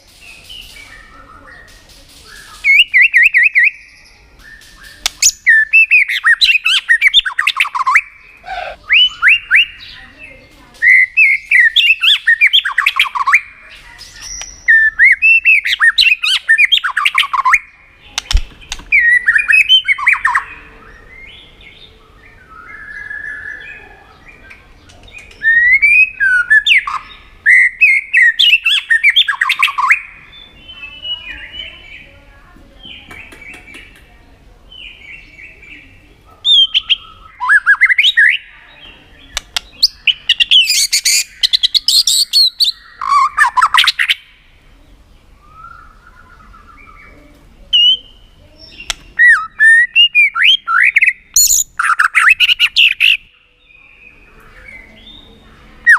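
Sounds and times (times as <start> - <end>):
bird chattering and whistling: 0.2 - 32.1, 32.8 - 34.1, 34.7 - 44.5, 45.4 - 55.9.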